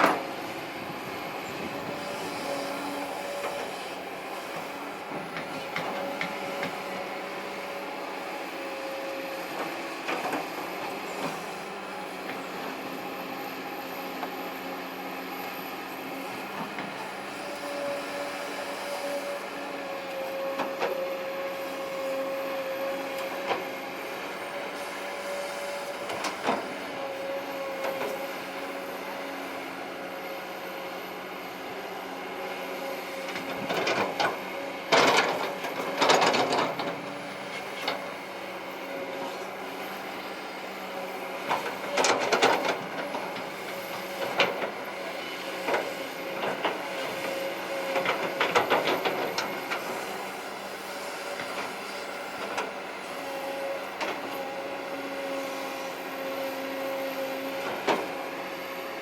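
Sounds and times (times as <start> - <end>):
excavator engine and hydraulics humming: 0.0 - 59.0.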